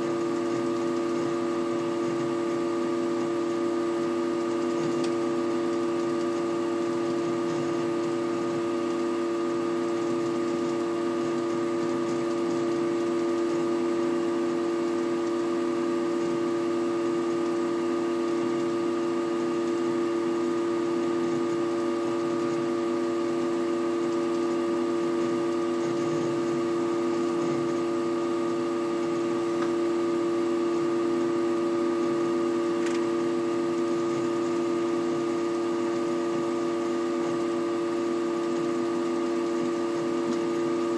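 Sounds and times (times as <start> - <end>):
computer humming: 0.0 - 17.7, 18.3 - 40.9.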